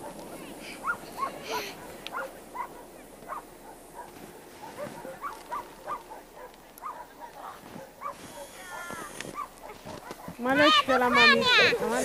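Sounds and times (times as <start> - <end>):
animal yelping: 0.0 - 10.7.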